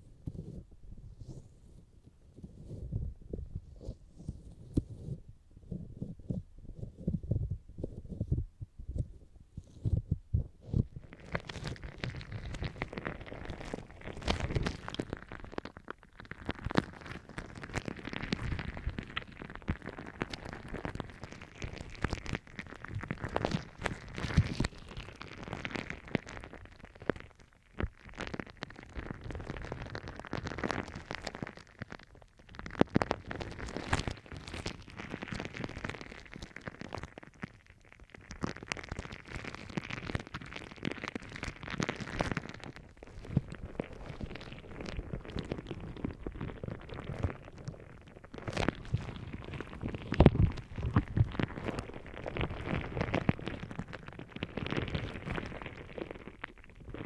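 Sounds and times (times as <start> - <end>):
gel ball rubbing on microphone: 0.0 - 57.0.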